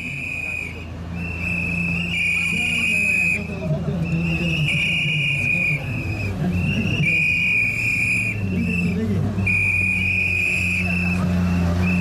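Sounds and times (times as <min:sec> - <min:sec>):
car engine running: 0:00.0 - 0:12.0
whistle blasts: 0:00.0 - 0:12.0.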